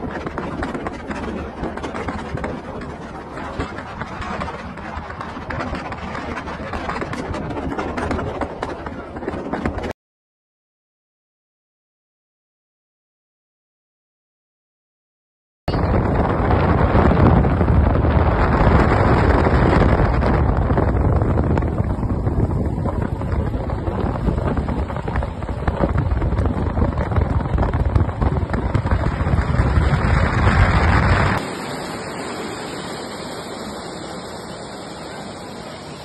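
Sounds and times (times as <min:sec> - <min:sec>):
moving vehicle rumble: 0:00.0 - 0:09.9, 0:15.7 - 0:36.0
wind buffeting microphone: 0:00.0 - 0:09.9, 0:15.7 - 0:36.0.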